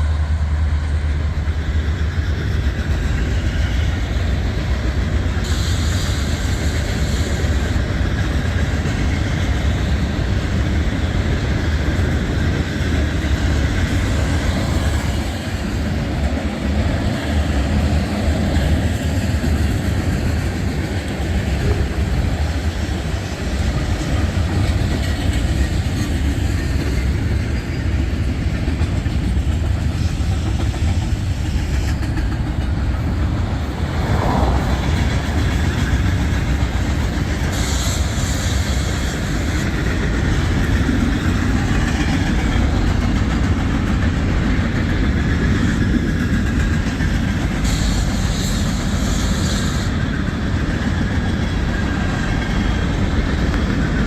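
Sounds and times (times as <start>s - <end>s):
freight train rumbling on rails: 0.0s - 54.0s.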